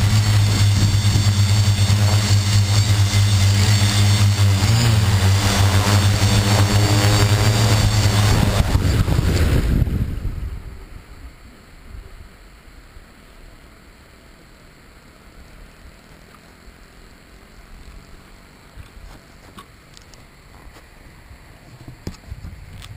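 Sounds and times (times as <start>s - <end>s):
drone motors and propellers humming: 0.0s - 22.9s
faint wind: 0.0s - 22.9s.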